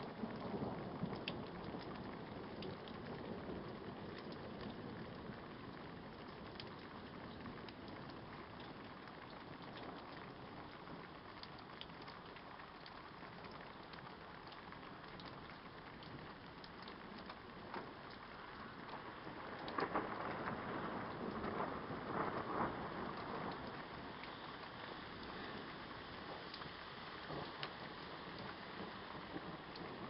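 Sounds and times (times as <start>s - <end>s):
raindrops ticking close by: 0.0s - 30.0s
steady rain falling: 0.0s - 30.0s.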